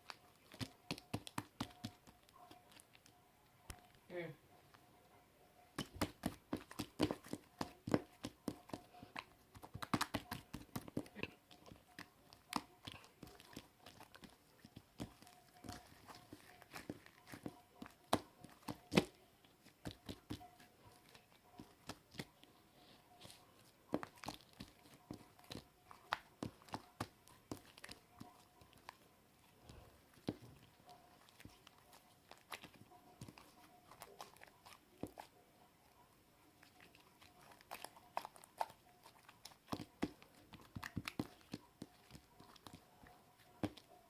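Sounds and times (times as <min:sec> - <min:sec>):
slime kneaded by hand: 0:00.0 - 0:03.2, 0:05.8 - 0:35.3, 0:36.5 - 0:44.0.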